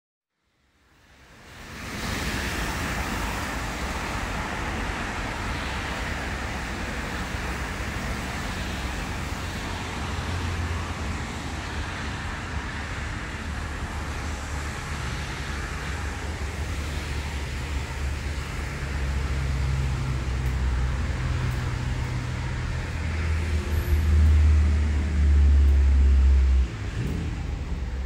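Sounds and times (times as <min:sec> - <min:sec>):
traffic rumble: 0:00.8 - 0:28.0.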